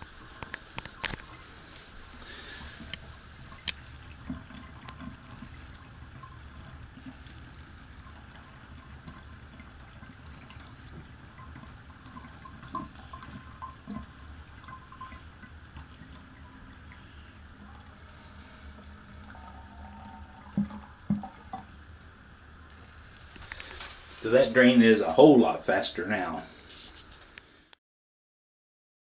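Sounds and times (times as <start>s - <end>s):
water trickling down a drain: 0.0s - 27.6s.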